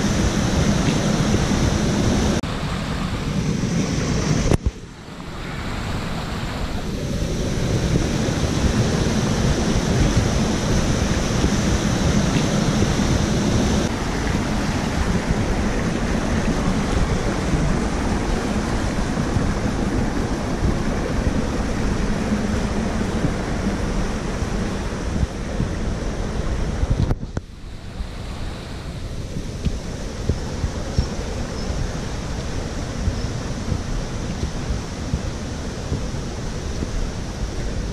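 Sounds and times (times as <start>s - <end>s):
stream rushing over rocks: 0.0s - 37.9s.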